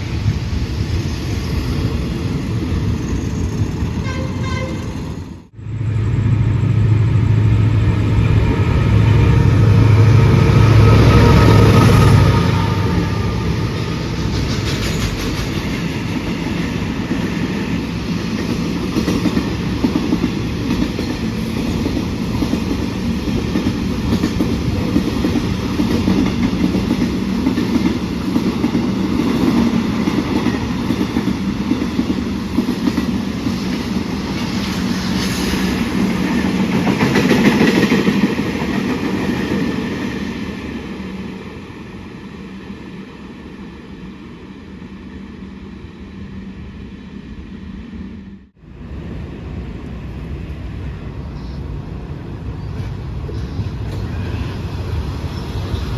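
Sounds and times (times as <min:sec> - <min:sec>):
train rolling past: 0:00.0 - 0:55.9.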